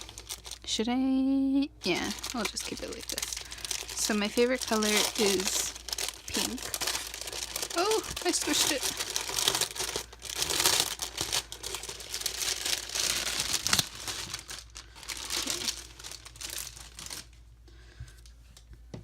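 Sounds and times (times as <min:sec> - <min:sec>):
plastic wrapping crinkling: 0:00.0 - 0:00.8, 0:01.8 - 0:18.4.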